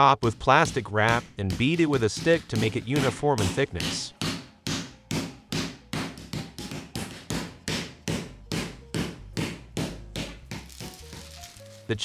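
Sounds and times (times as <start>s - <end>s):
stick pounding meat on wooden board: 0.2s - 11.6s.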